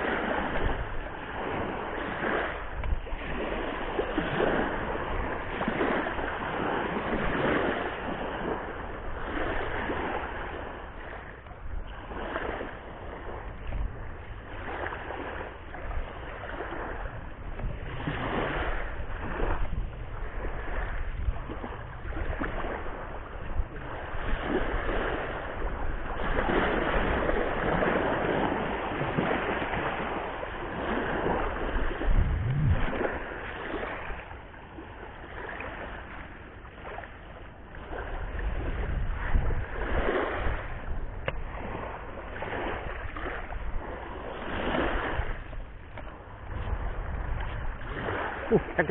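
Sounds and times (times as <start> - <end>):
surf washing onto beach: 0.0 - 48.9
wind on microphone: 0.0 - 48.9.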